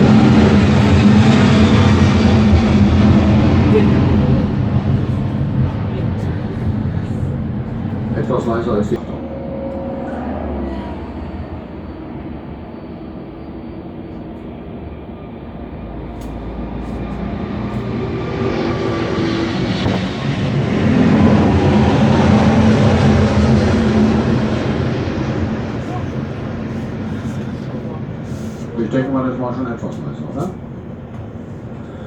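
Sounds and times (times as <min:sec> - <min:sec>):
jet airliner engines passing: 0:00.0 - 0:32.0.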